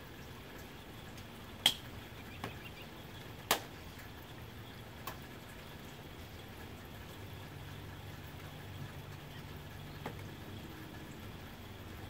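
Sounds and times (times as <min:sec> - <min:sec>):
soft rain on a tin roof: 0:00.0 - 0:12.0.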